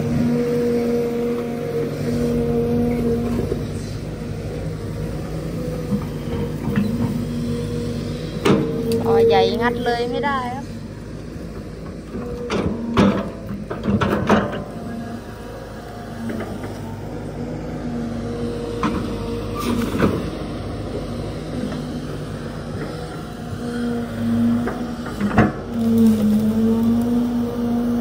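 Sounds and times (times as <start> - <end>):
excavator engine and hydraulic whine: 0.0 - 28.0.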